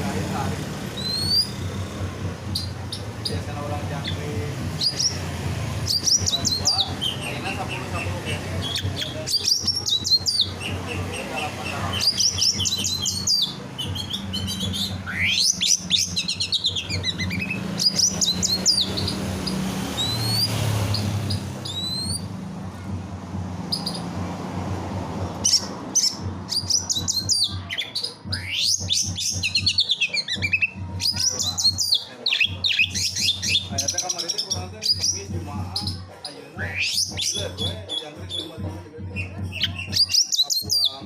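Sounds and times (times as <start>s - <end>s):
songbirds singing: 0.0s - 41.0s.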